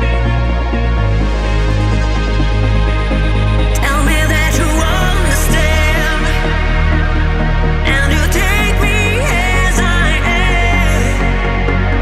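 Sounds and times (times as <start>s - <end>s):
electronic house music: 0.0s - 12.0s.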